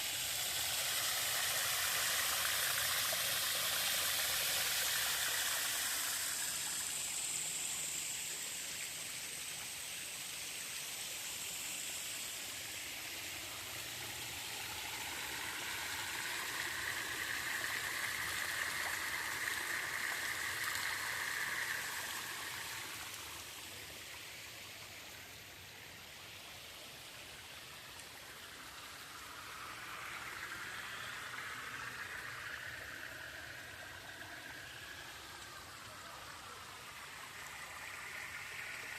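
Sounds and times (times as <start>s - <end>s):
spring water trickling: 0.0s - 38.9s.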